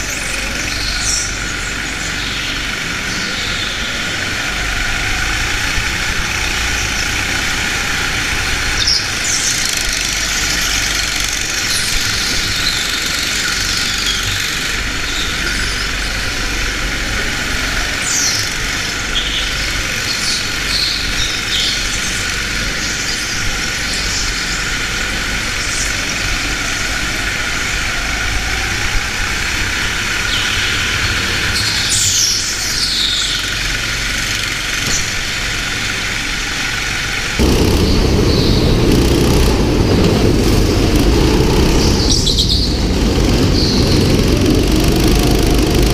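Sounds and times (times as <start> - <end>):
kart engine running: 0.0 - 45.9.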